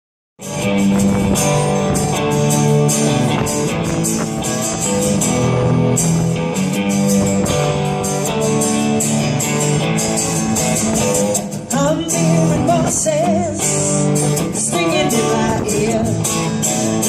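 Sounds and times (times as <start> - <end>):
strummed guitar chords: 0.4 - 17.0.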